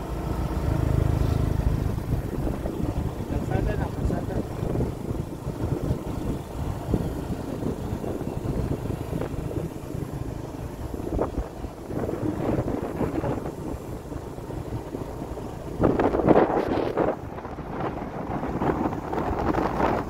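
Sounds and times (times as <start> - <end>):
vehicle low rumble: 0.0 - 20.0
wind buffeting microphone: 0.2 - 20.0.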